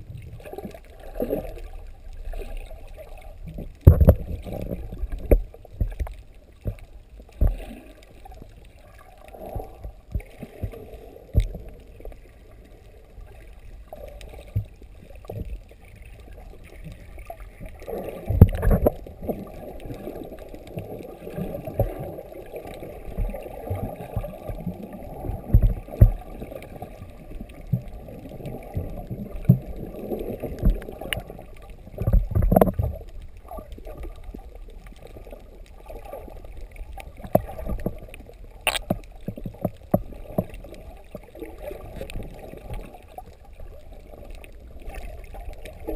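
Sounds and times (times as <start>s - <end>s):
underwater water bubbling: 0.0s - 45.9s.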